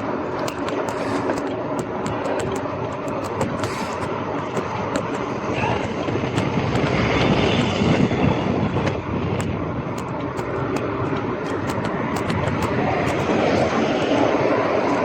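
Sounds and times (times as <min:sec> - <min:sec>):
bicycle ticks and rattles: 0:00.0 - 0:15.0
wind on microphone: 0:02.0 - 0:15.0.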